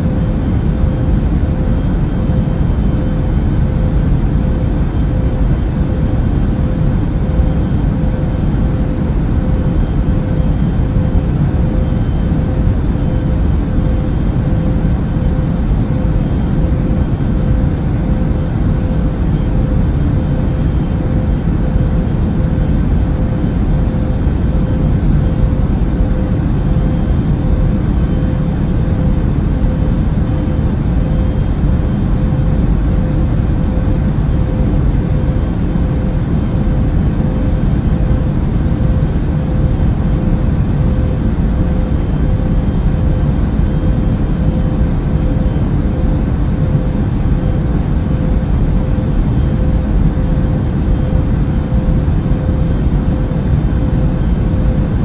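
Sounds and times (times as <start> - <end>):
airplane cabin rumble and hum: 0.0 - 55.0.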